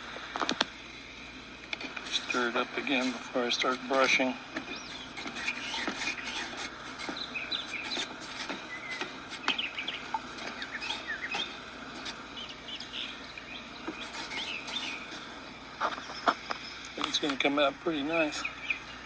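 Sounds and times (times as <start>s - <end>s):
songbirds chirping: 0.7s - 19.0s.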